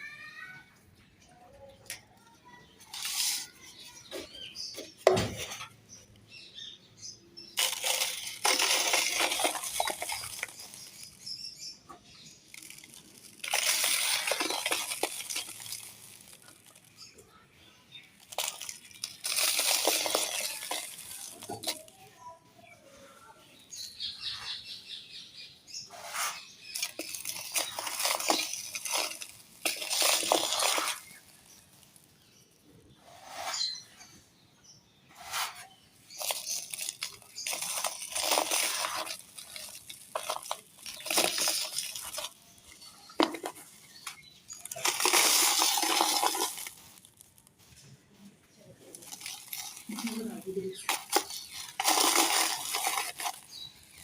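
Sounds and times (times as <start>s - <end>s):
dry clay crunching: 1.6s - 24.7s, 25.8s - 33.8s, 35.0s - 54.0s.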